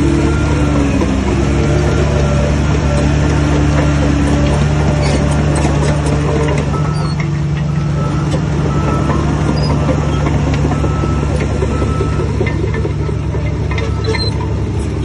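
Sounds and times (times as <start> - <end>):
bulldozer diesel engine running: 0.0 - 15.0
metallic clanks and clicks: 2.9 - 15.0.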